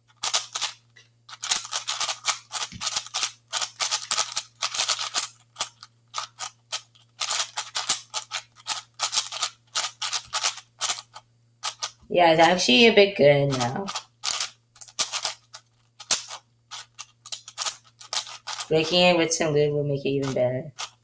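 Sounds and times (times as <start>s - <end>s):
speed cube turning clacks: 0.1s - 12.0s, 13.5s - 18.8s, 20.2s - 21.0s.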